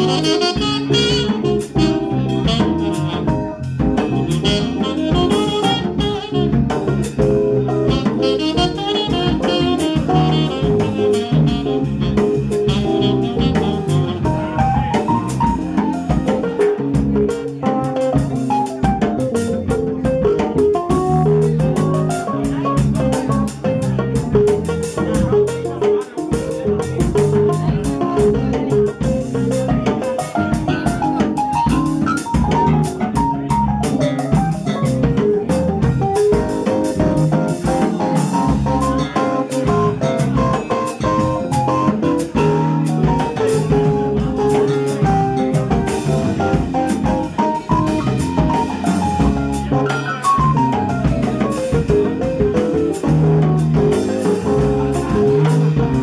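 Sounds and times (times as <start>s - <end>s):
drum kit and percussion: 0.0s - 56.0s
melodic lead line: 0.0s - 56.0s.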